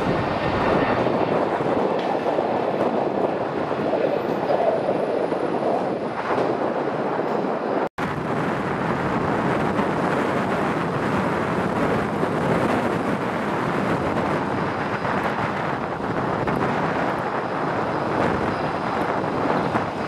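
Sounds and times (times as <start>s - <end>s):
jet engine noise: 0.0s - 20.0s
steady rushing noise: 0.0s - 20.0s
wind on microphone: 0.0s - 20.0s.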